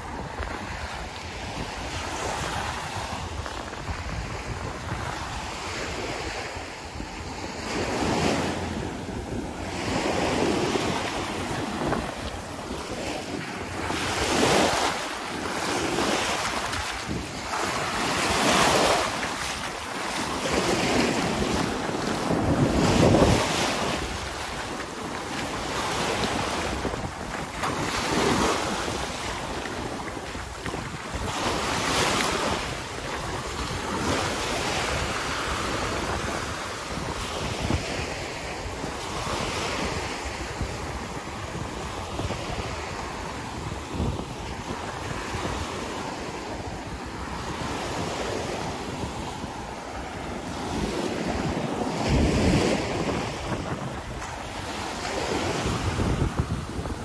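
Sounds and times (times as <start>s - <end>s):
waves breaking on sandy beach: 0.0s - 57.0s.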